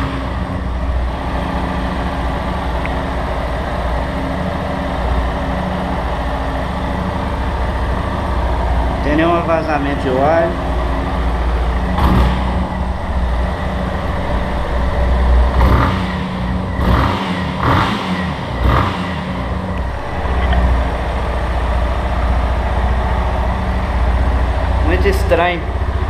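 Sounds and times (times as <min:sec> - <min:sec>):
motorcycle engine ticking: 0:00.5 - 0:26.0.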